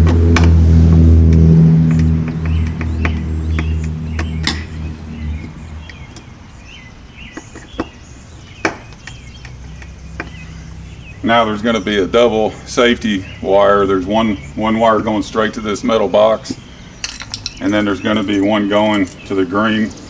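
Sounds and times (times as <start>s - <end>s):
vehicle engine humming: 0.0s - 19.4s.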